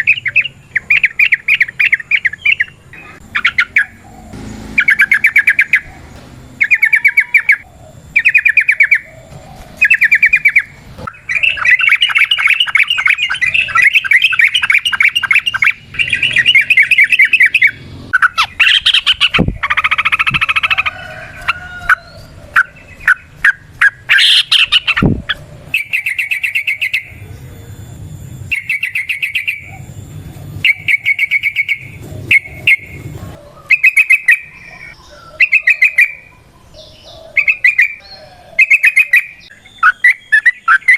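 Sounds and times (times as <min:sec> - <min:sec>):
bird singing bubbly phrases: 0:00.0 - 0:20.7, 0:22.0 - 0:40.9
bird fast rolling trills: 0:00.0 - 0:40.9.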